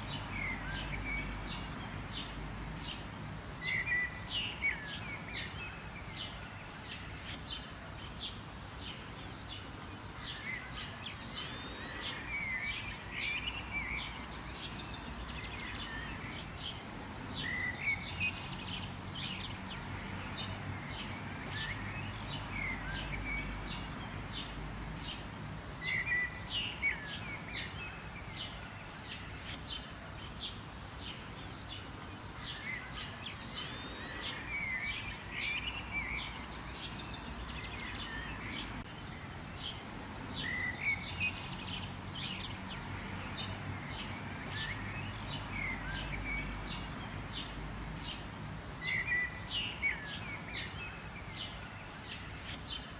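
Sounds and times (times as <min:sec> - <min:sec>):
birds chirping and singing: 0:00.0 - 0:52.9
low background hiss and rumble: 0:00.0 - 0:52.9.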